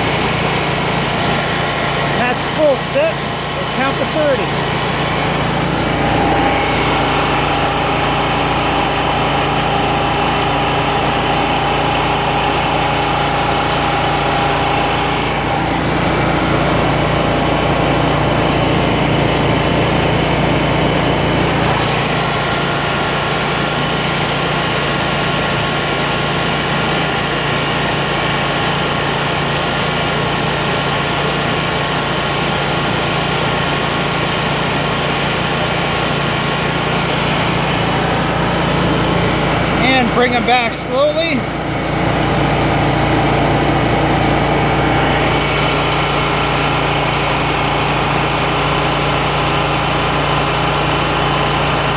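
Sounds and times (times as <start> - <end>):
engine running at high idle: 0.0 - 51.9.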